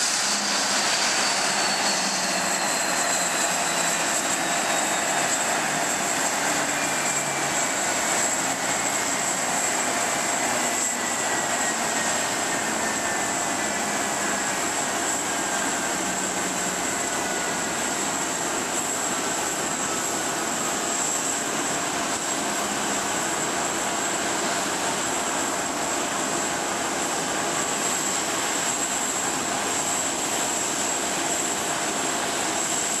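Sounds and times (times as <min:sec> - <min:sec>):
jet engines rushing with whistle: 0:00.0 - 0:33.0.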